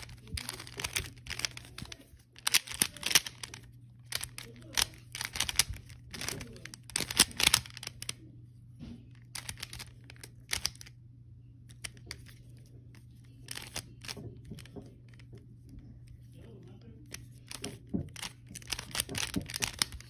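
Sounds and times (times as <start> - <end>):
puzzle cube plastic clicks: 0.0 - 8.2, 9.2 - 11.0, 11.7 - 15.4, 17.1 - 20.0.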